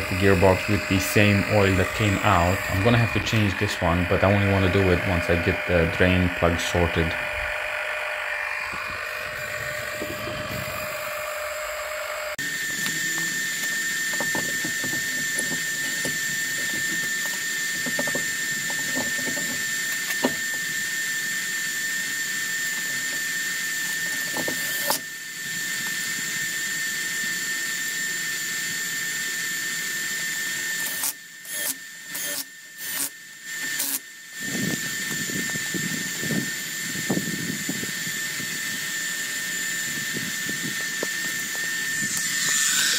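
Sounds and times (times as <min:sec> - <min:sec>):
cordless power tool whining: 0:00.0 - 0:42.9.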